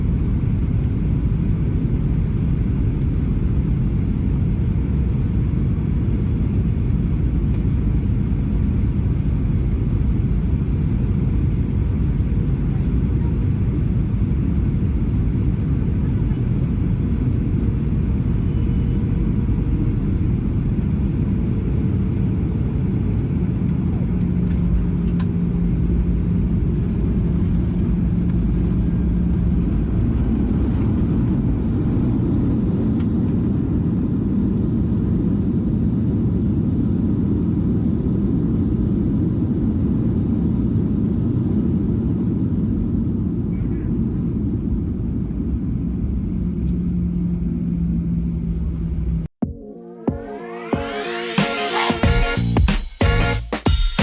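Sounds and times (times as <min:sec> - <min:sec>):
jet airliner rumble: 0:00.0 - 0:49.3.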